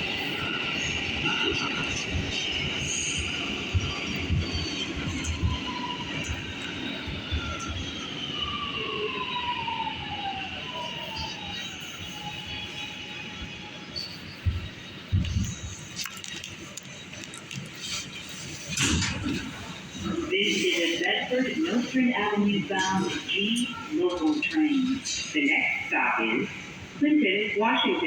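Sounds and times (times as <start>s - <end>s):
subway train rumble and clatter: 0.0s - 28.0s.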